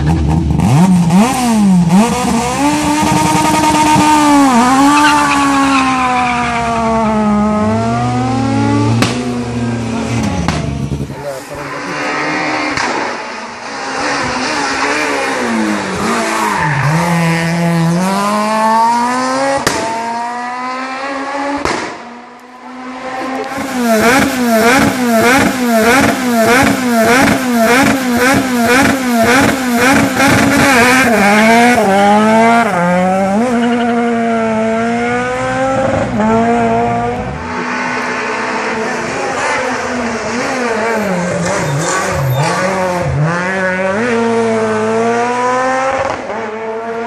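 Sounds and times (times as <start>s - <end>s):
car accelerating away: 0.0s - 47.0s
rally car engine revving: 0.0s - 47.0s.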